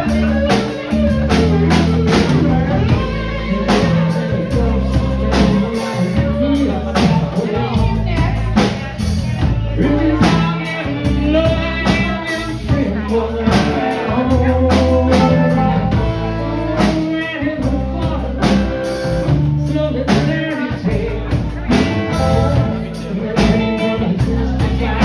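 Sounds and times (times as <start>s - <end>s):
drum kit beat: 0.0s - 25.0s
electric guitars: 0.0s - 25.0s.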